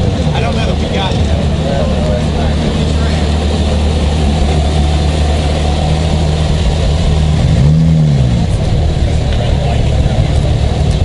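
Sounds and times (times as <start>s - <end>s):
sports car engine at low revs: 0.0s - 11.0s.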